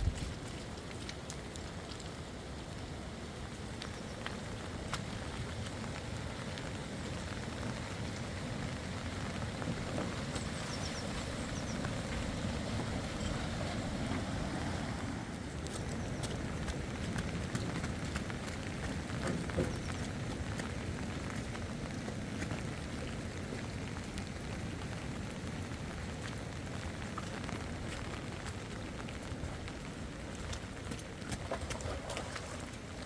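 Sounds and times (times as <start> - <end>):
steady rain falling: 0.0 - 33.0
raindrop hits: 3.5 - 33.0.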